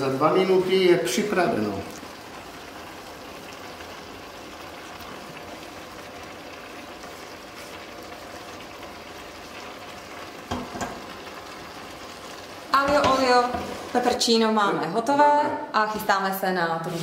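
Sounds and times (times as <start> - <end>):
pasta sauce bubbling in a pot: 0.0 - 14.9.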